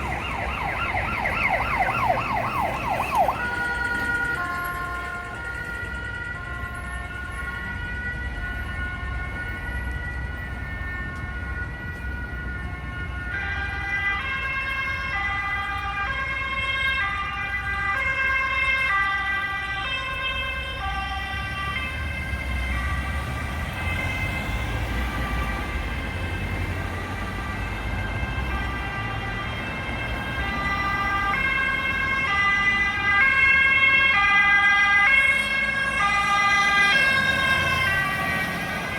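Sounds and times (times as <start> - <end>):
two-tone emergency sirens: 0.0 - 38.9
vehicle engines rumbling: 0.0 - 38.9.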